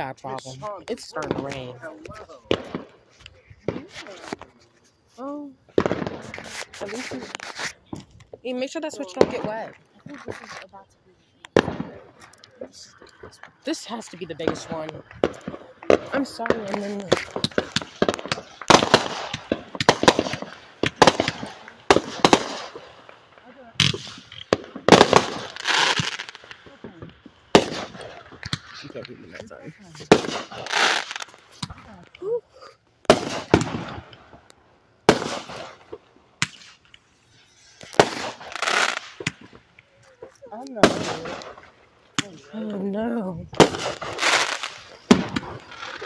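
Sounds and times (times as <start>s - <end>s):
fireworks bangs and pops: 0.0s - 46.0s.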